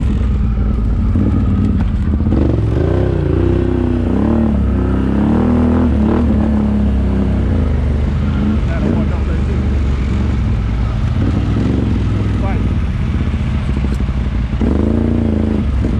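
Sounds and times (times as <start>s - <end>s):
atv engine revving: 0.0s - 15.9s.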